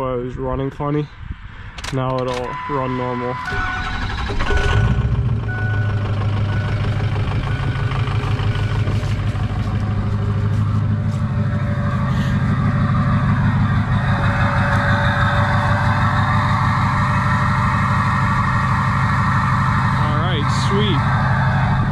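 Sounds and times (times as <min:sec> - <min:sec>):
diesel engine running: 0:02.2 - 0:21.9.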